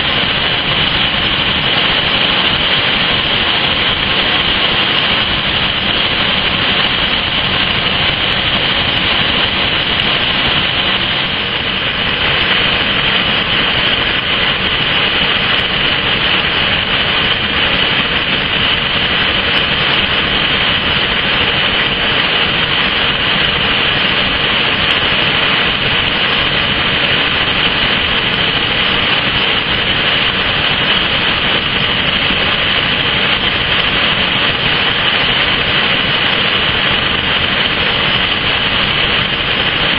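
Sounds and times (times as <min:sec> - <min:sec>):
furnace equipment roar: 0:00.0 - 0:39.9.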